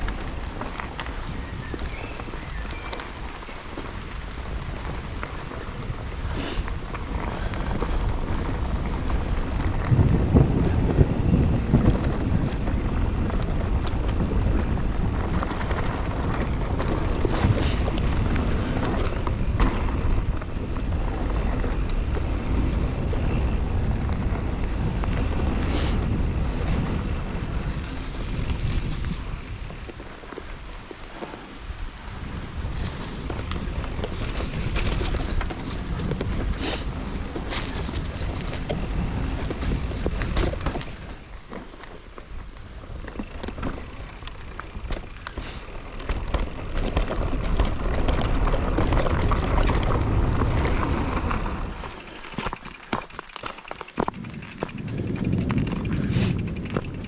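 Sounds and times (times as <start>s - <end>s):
wind rushing over microphone: 0.0s - 41.5s, 42.4s - 52.7s, 54.0s - 57.0s
bike clicks and rattles: 0.0s - 57.0s
tyres rumbling on trail: 0.0s - 57.0s.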